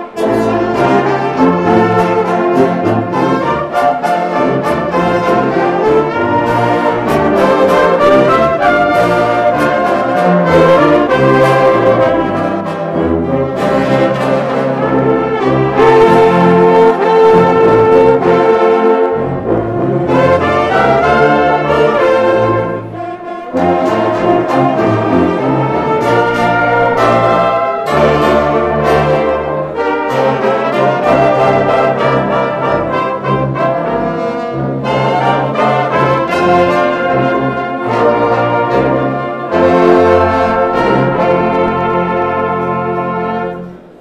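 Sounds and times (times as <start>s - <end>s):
brass band playing: 0.0s - 44.0s.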